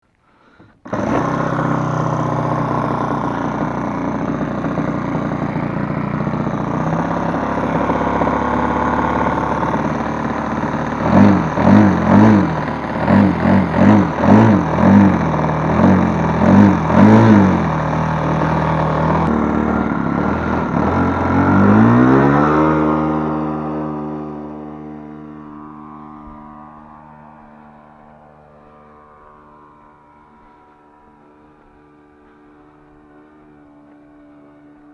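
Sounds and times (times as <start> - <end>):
model aircraft engine: 0.0 - 34.9.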